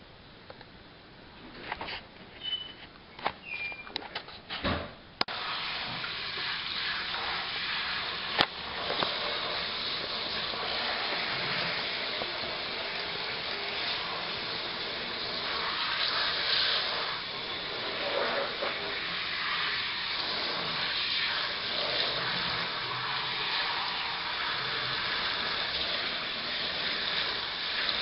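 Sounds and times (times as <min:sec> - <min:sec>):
shower head spraying water: 0:05.3 - 0:28.0.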